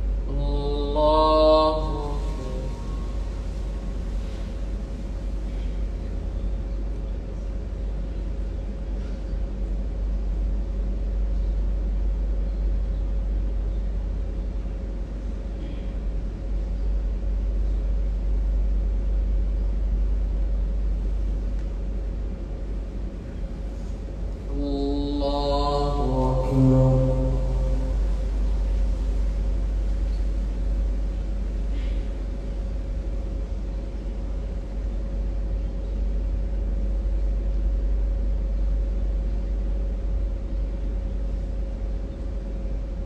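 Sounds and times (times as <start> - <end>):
faint steady hum: 0.0 - 43.0
low room rumble: 0.0 - 43.0.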